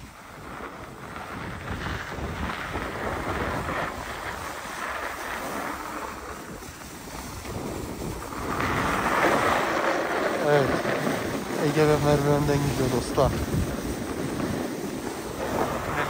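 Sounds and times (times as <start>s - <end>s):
skis sliding over snow: 0.0s - 16.0s
wind rushing over microphone: 0.0s - 16.0s.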